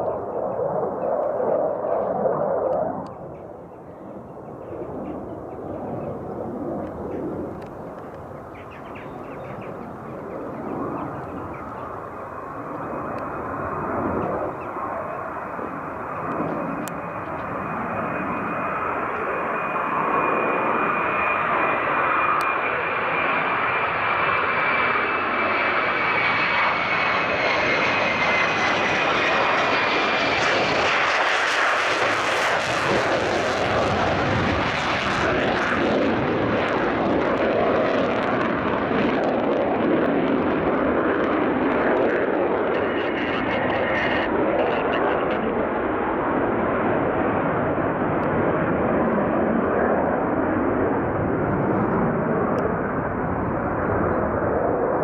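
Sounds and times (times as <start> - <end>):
fighter jet engine roar: 0.0 - 55.0
high jet whine: 4.2 - 55.0.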